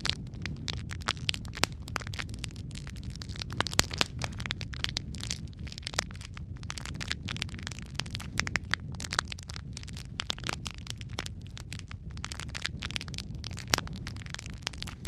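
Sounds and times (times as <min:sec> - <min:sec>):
fire pops and snaps: 0:00.0 - 0:15.0
low rumble of flames: 0:00.0 - 0:15.0.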